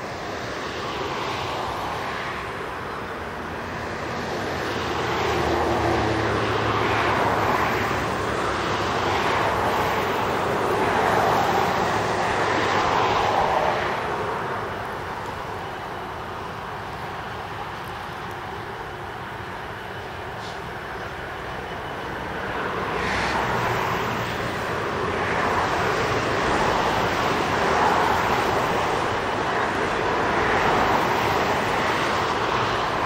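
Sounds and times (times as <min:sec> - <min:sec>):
diesel locomotive engine hauling train: 0:00.0 - 0:33.0.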